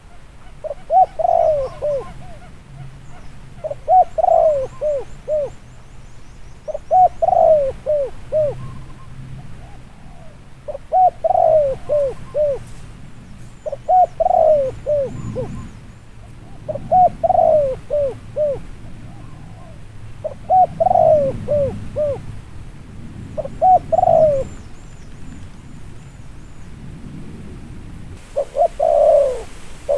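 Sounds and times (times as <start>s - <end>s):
dove cooing: 0.0s - 5.6s, 6.7s - 12.8s, 13.4s - 22.4s, 23.3s - 25.4s, 28.2s - 29.9s.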